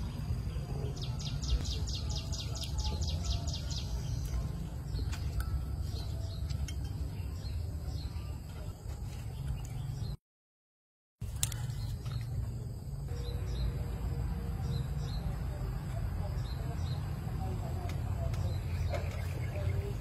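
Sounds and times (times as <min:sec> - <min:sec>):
bird chirping: 0:00.0 - 0:10.2, 0:11.3 - 0:20.0.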